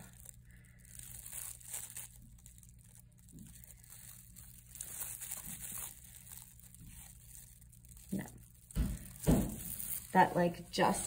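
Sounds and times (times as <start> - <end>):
thin plastic crinkling: 0.0 - 11.0.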